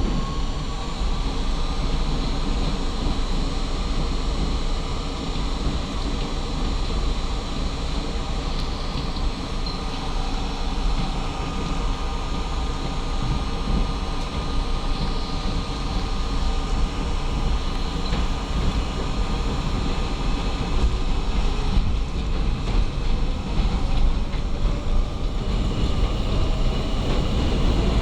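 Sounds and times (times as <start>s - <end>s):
subway wheels rumbling: 0.0s - 28.0s.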